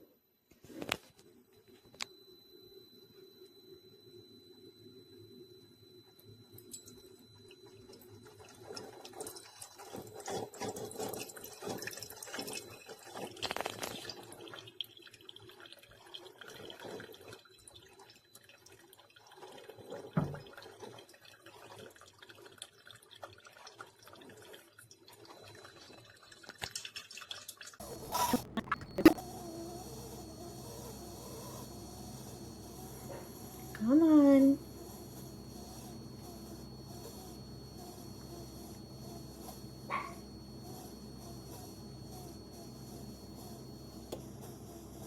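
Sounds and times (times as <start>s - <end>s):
coffee maker gurgling and dripping: 6.1s - 45.0s.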